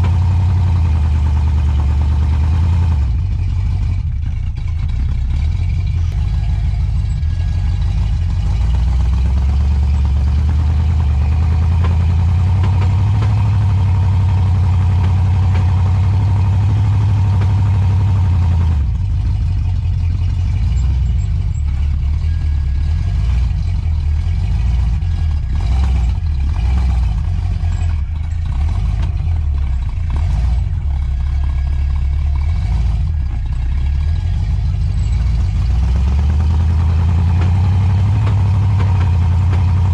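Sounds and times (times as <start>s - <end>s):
truck engine under load: 0.0s - 39.9s.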